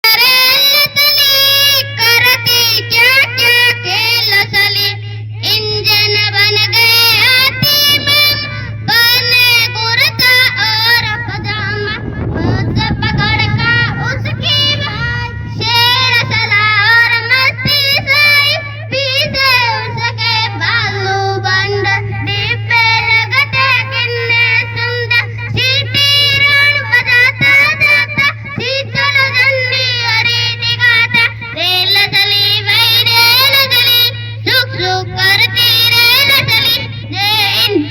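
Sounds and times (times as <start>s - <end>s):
child singing: 0.0s - 37.9s
steady low hum: 0.0s - 37.9s.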